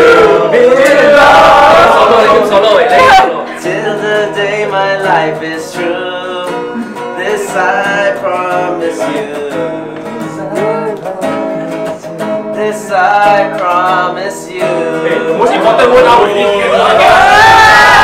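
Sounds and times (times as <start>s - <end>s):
acoustic guitar strumming: 0.0s - 18.0s
men singing together: 0.0s - 18.0s.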